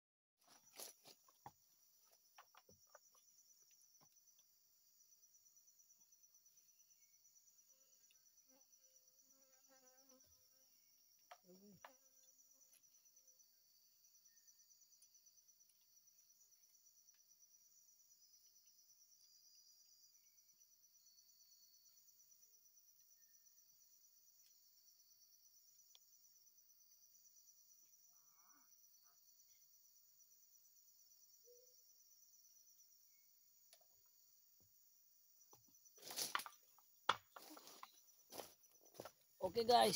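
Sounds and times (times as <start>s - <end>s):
insects trilling: 0.4s - 39.9s.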